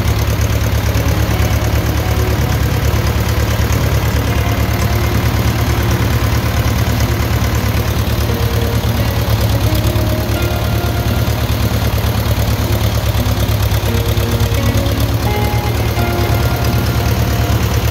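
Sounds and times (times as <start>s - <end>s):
tractor engine puttering: 0.0s - 17.9s.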